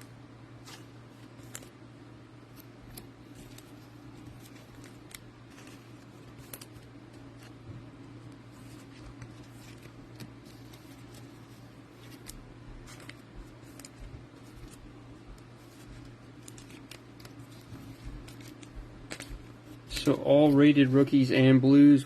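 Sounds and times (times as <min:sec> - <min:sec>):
steady low hum: 0:00.0 - 0:22.0
cards rustling and clicking: 0:00.6 - 0:01.8, 0:02.4 - 0:21.0.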